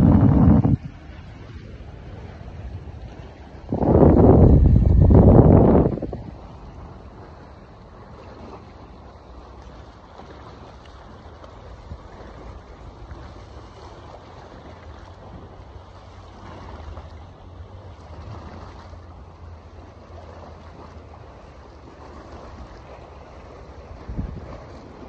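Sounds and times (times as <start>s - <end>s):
sea waves on rocks: 0.0s - 25.0s
wind buffeting microphone: 0.0s - 25.0s.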